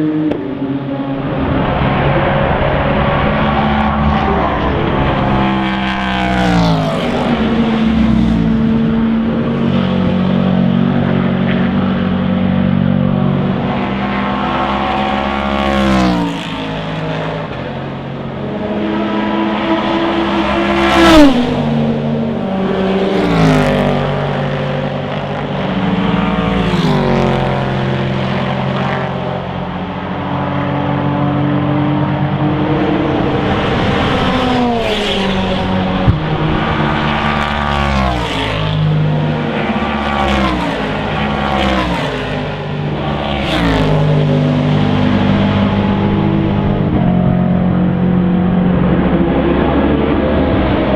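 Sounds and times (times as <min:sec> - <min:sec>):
racing cars passing at speed: 0:00.0 - 0:50.9.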